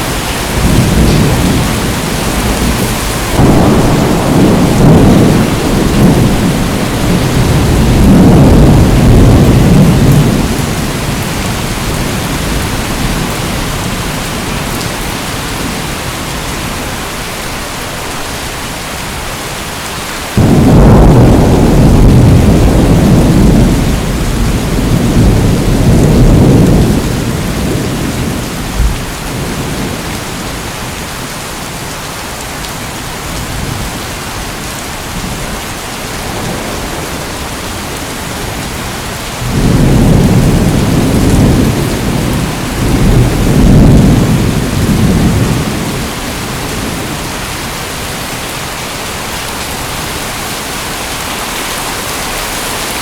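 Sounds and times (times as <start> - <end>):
thunder rumbling: 0.0 - 17.1, 20.4 - 31.4, 33.2 - 51.2
steady rain: 0.0 - 53.0.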